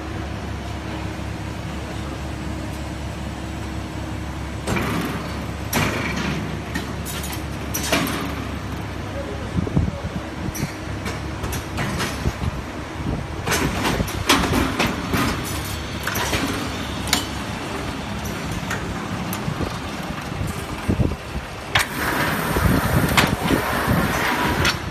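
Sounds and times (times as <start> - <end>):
machine mechanical hum: 0.0 - 24.9.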